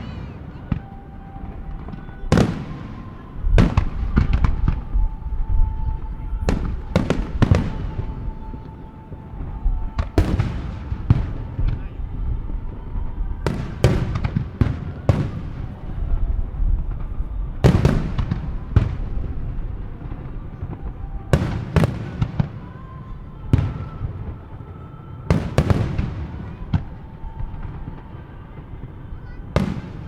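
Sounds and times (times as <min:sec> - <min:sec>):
firework bangs: 0:00.0 - 0:05.2, 0:06.3 - 0:30.0.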